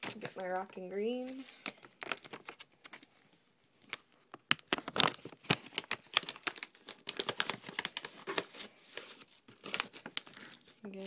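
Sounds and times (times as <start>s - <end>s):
plastic pouch crinkling: 0.0s - 11.0s.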